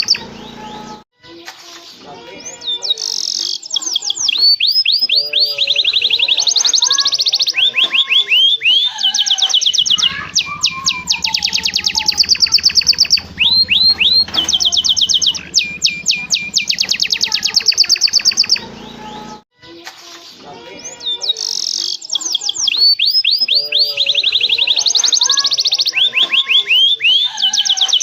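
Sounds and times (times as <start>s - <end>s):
canary singing in trills: 0.0s - 1.0s, 2.2s - 19.4s, 20.6s - 28.0s.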